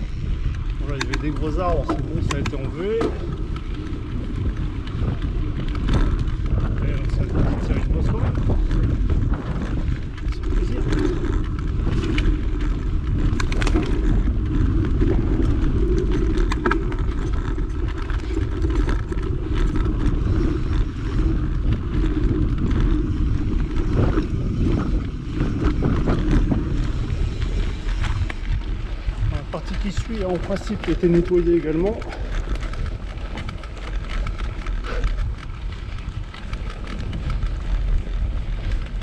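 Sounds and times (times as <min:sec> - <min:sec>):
bike clicks and rattles: 0:00.0 - 0:39.0
bike tyres rumbling: 0:00.0 - 0:39.0
wind noise: 0:00.0 - 0:39.0.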